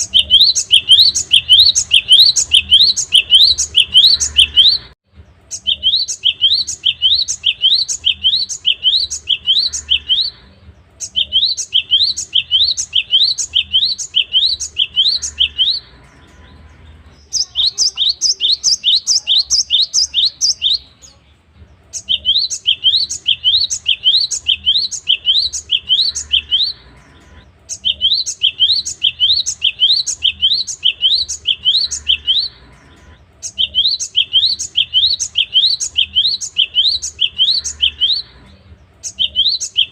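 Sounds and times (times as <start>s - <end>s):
bird singing sharp rising notes: 0.0s - 21.0s, 21.7s - 39.9s.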